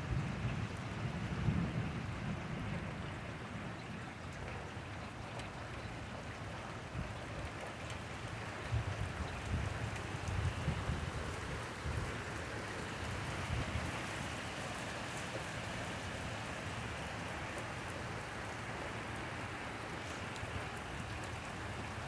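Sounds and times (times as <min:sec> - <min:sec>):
steady rain falling: 0:00.0 - 0:22.0
rain drop ticks: 0:04.2 - 0:22.0.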